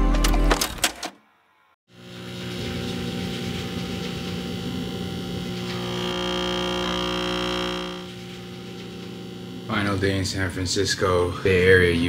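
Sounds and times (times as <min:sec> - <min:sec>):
drone of held tones: 0:02.0 - 0:12.0.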